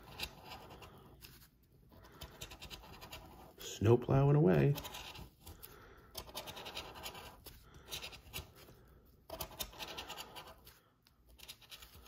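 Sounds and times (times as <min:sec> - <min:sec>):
plastic tool scraping ticket: 0:00.0 - 0:03.7, 0:04.6 - 0:12.0.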